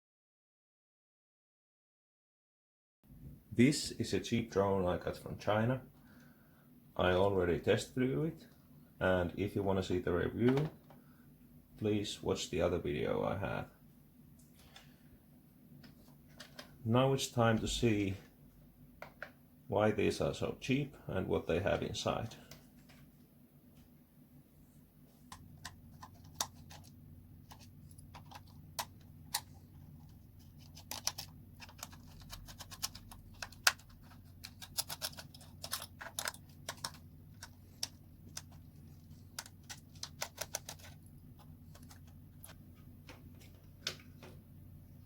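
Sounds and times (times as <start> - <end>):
faint low hum: 3.1 - 45.0.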